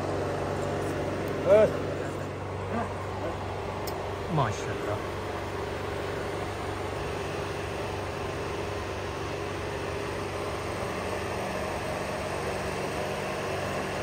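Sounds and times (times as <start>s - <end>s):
steady engine-like hum: 0.0s - 14.0s.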